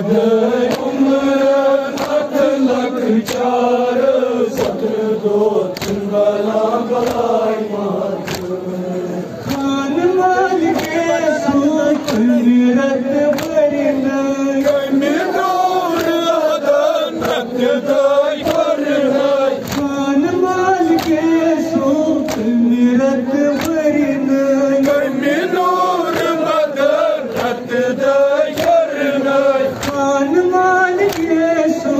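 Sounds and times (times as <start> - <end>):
man chanting into a microphone: 0.0 - 31.9
men chanting a lament: 0.0 - 31.9.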